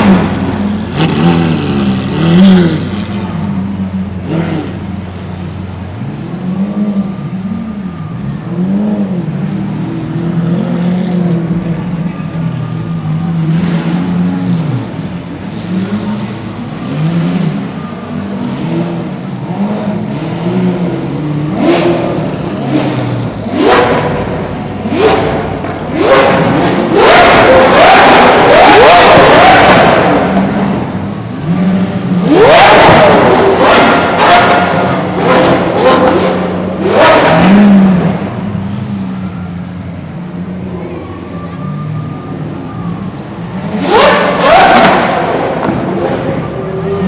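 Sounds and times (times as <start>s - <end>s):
car engines idling and revving: 0.0s - 47.0s.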